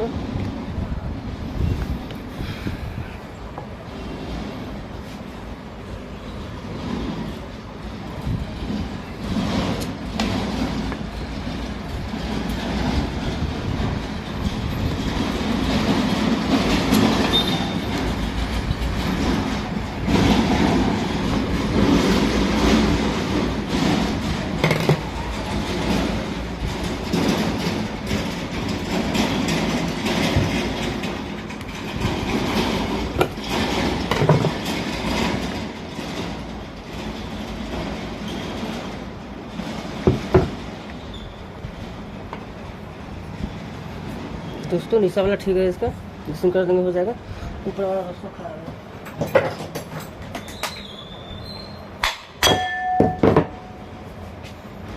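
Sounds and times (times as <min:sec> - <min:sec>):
ceiling fan rattling rumble: 0:00.0 - 0:50.3.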